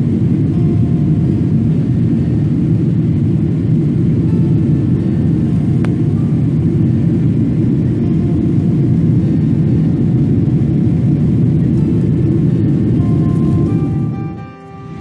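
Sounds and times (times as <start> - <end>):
jet engine cabin rumble: 0.0 - 15.0.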